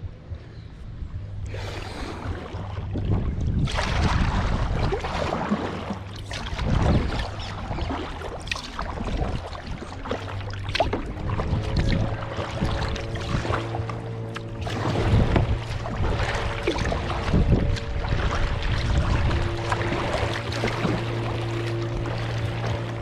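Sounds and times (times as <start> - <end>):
wind rumble on microphone: 0.0 - 23.0
paddle splashing in water: 1.5 - 23.0.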